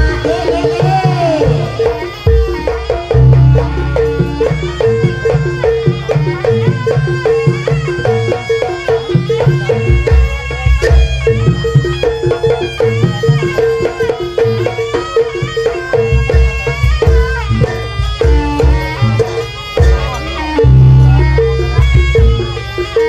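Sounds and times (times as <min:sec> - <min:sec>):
drums: 0:00.0 - 0:23.0
rapidly repeated pitched note: 0:00.0 - 0:23.0
wavering melody line: 0:00.0 - 0:23.0.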